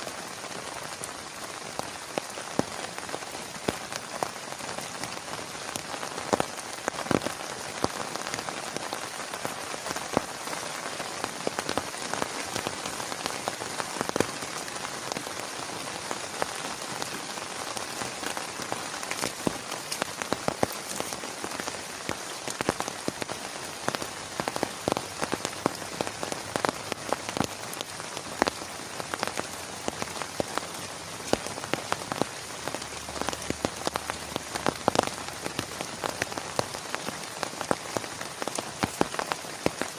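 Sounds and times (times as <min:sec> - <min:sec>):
heavy rain on a surface: 0:00.0 - 0:39.9.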